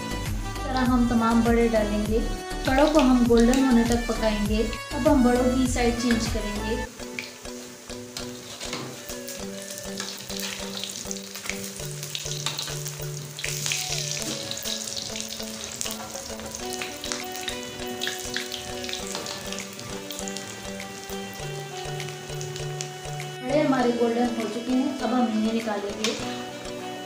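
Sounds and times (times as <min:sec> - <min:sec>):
fritters sizzling in oil: 0:00.0 - 0:24.1
background music: 0:00.0 - 0:27.0.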